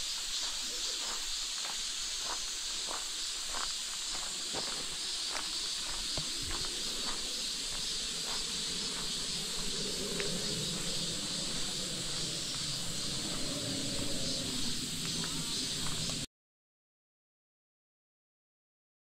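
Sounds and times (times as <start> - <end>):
high hiss of forest ambience: 0.0 - 16.3
footsteps on gravel: 0.1 - 16.3.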